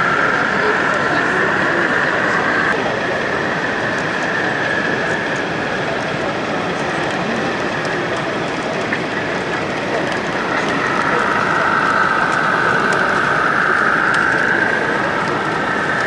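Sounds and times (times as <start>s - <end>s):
hall background noise: 0.0s - 16.0s.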